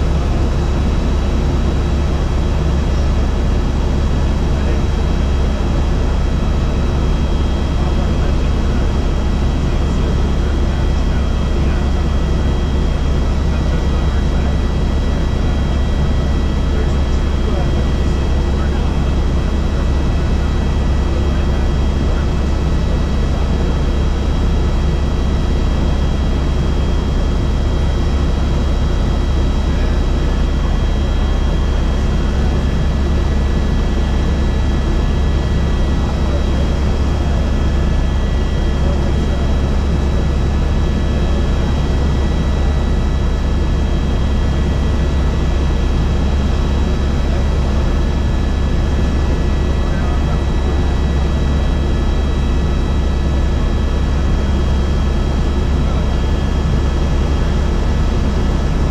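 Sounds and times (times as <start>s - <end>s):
helicopter engine and rotor drone: 0.0s - 58.9s.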